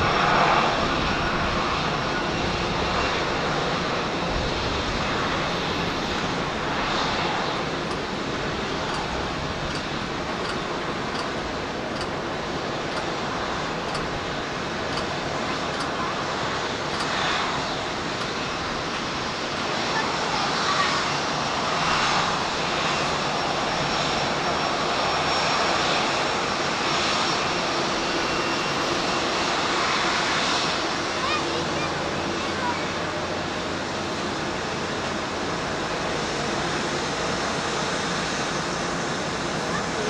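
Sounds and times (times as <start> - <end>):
jet engines rushing and whining: 0.0 - 40.0.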